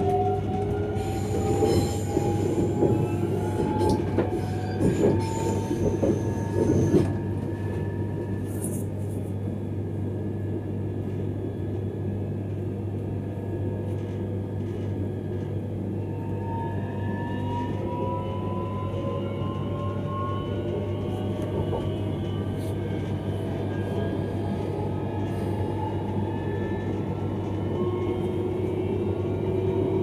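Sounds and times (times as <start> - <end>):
train rumble with rising whine: 0.0 - 30.0.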